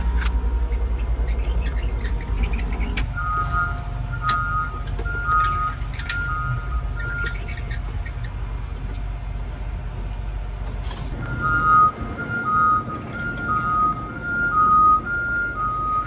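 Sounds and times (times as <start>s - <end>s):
garbage truck engine rumble: 0.0s - 16.0s.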